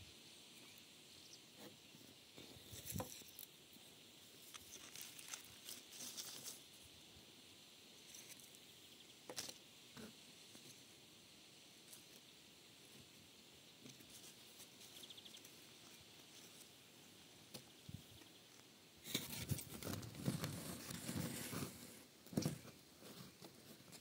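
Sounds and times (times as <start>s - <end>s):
leaves rustling: 0.0s - 24.0s
low steady hiss: 0.0s - 24.0s.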